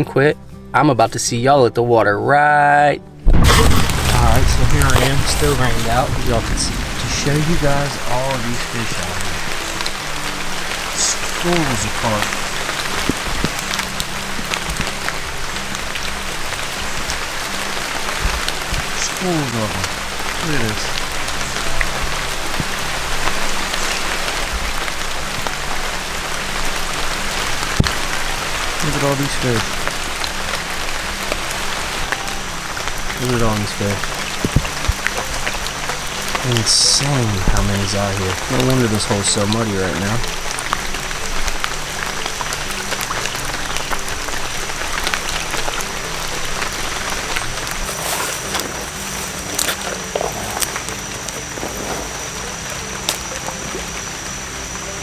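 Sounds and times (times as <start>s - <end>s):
steady rain hiss: 3.2s - 55.0s
raindrops ticking: 3.3s - 55.0s.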